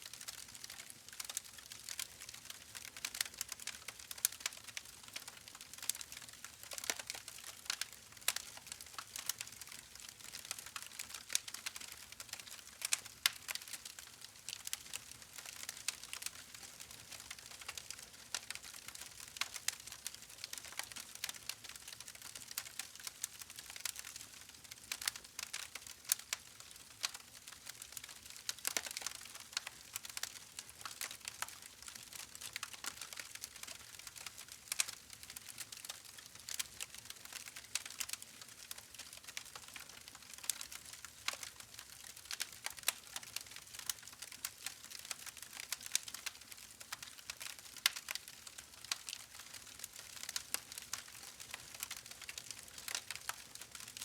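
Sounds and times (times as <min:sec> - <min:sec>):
campfire crackling and popping: 0:00.2 - 0:54.0.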